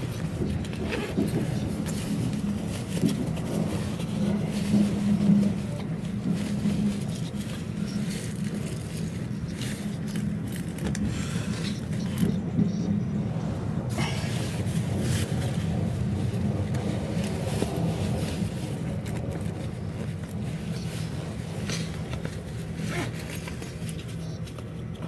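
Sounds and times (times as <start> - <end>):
clicks and rattles of train: 0.0 - 25.0
train rumbling: 0.0 - 25.0.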